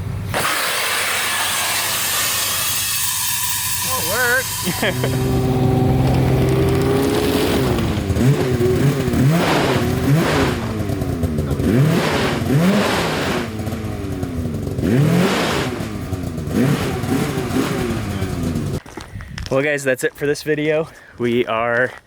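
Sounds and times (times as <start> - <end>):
snowmobile engine revving: 0.0 - 18.8.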